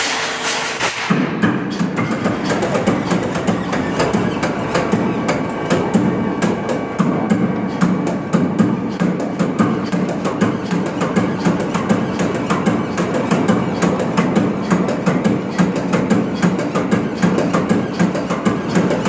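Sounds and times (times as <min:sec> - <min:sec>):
marine diesel engine clattering: 0:01.6 - 0:19.0.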